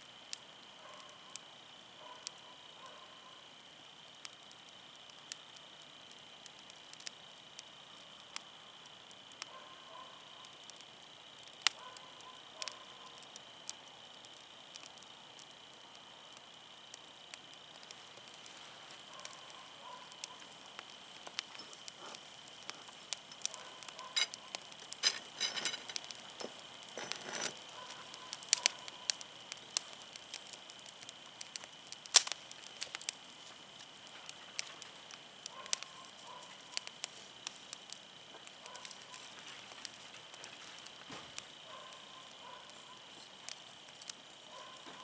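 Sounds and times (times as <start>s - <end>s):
wood fire crackling: 0.0s - 45.0s
sharp pops from burning wood: 0.1s - 2.4s, 3.6s - 9.5s, 10.2s - 45.0s.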